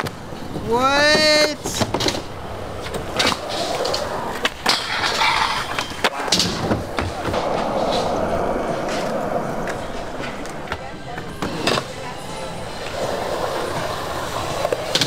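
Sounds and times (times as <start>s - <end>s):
skateboard wheels rolling on concrete: 0.0s - 15.0s
skateboards clacking on ground: 0.0s - 15.0s.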